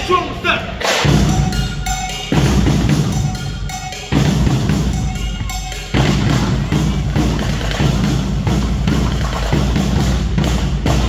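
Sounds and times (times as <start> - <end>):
drum-heavy music: 0.0 - 11.0.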